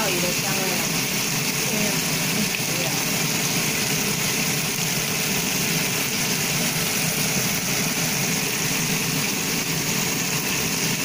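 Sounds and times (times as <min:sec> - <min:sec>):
fish sizzling in a frying pan: 0:00.0 - 0:11.0.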